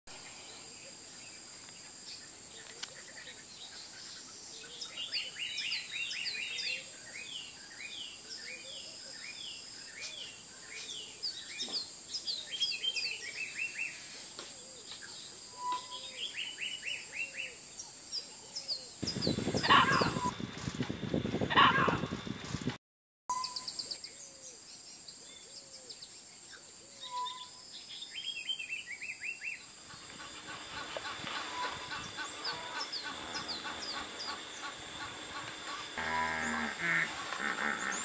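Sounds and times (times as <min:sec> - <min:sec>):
steady high-pitched hiss: 0:00.1 - 0:22.7, 0:23.4 - 0:38.0
birds singing: 0:00.3 - 0:20.4, 0:23.3 - 0:38.0.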